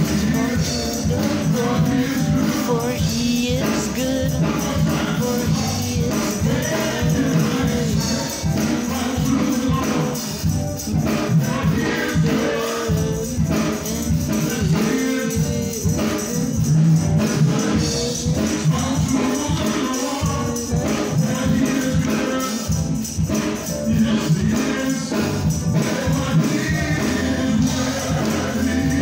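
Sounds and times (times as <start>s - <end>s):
choir singing gospel: 0.0s - 29.0s
tambourine shaking: 0.0s - 29.0s.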